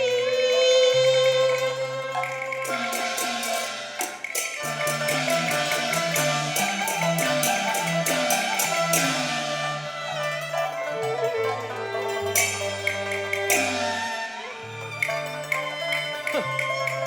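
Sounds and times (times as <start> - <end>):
instrumental ensemble melody: 0.0 - 17.0
percussion clicks: 1.5 - 9.6, 10.2 - 17.0.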